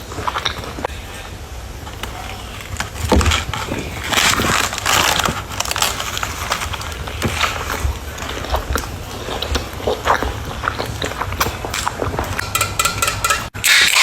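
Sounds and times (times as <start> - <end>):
crunchy chewing: 0.0 - 12.6.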